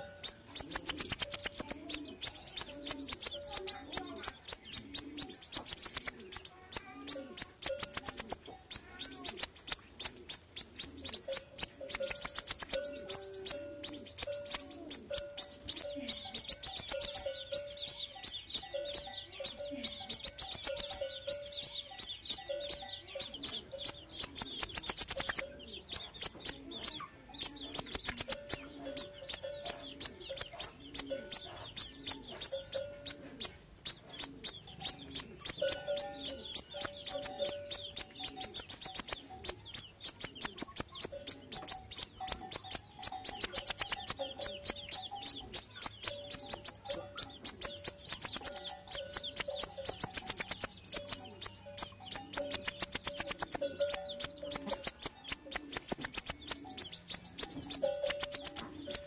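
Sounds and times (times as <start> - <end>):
high-pitched bird chirps: 0.0 - 59.0.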